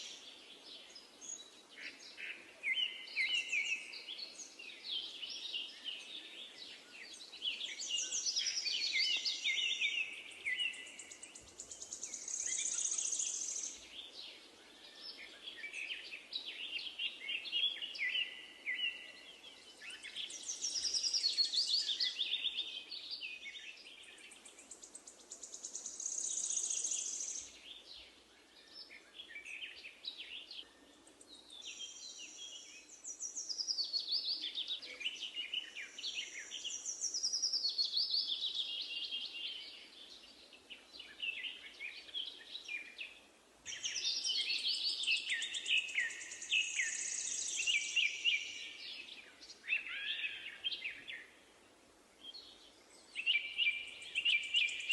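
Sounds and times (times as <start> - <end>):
faint outdoor hiss: 0.0 - 54.9
songbirds singing: 0.0 - 54.9.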